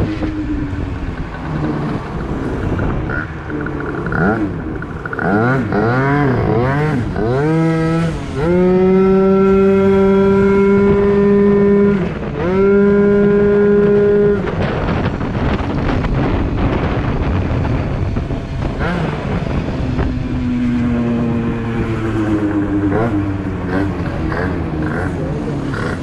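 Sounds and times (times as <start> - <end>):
scooter engine accelerating: 0.0 - 26.0.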